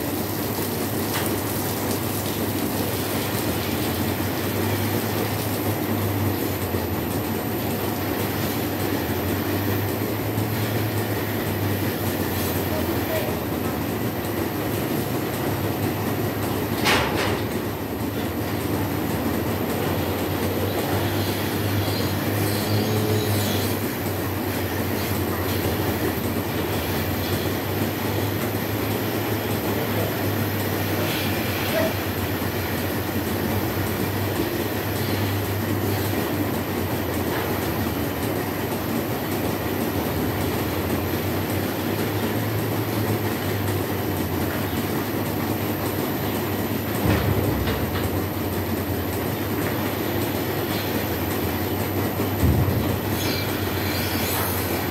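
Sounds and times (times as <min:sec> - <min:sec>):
milking machine drone: 0:00.0 - 0:54.9.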